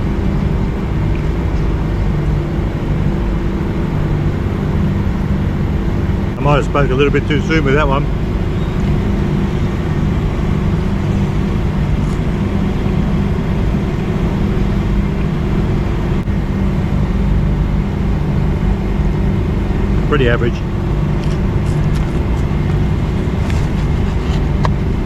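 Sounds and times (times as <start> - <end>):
low outdoor background rumble: 0.0 - 25.0.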